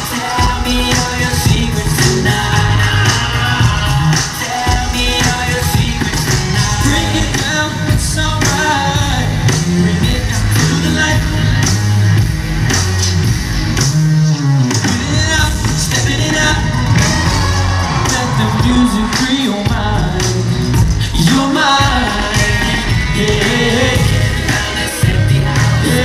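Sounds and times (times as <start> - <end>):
man singing: 0.0 - 12.0, 14.8 - 26.0
pop music with strong bass: 0.0 - 26.0.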